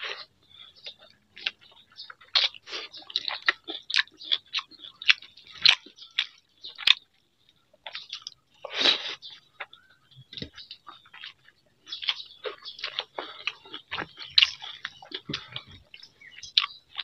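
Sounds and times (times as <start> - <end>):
man chewing and lip smacking: 0.0 - 17.0.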